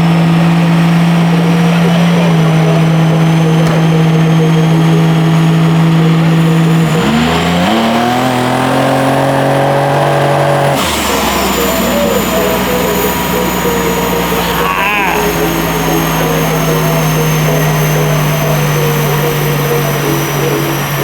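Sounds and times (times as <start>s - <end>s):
turbocharged engine under load: 0.0s - 21.0s.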